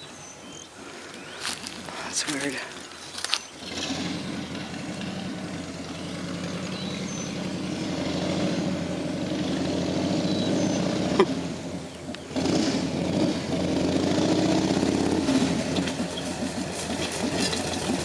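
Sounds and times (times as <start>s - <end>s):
vehicle engine running: 1.3s - 18.0s.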